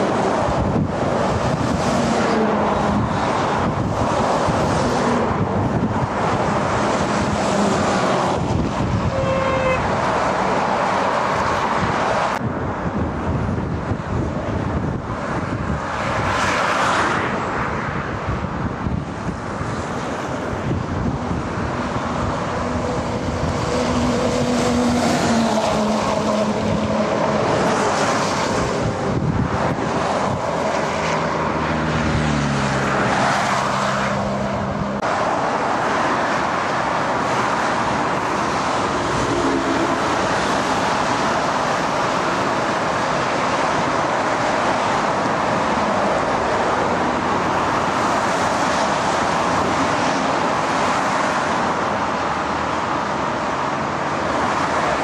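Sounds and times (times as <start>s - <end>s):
busy road traffic: 0.0s - 55.0s
diesel trucks passing: 0.0s - 55.0s.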